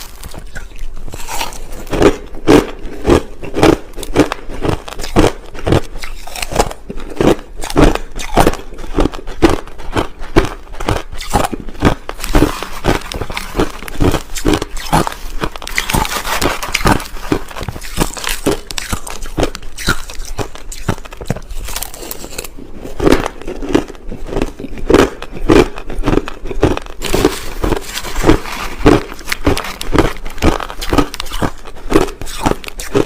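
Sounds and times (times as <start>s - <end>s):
crushed ice being chewed: 0.0s - 33.0s.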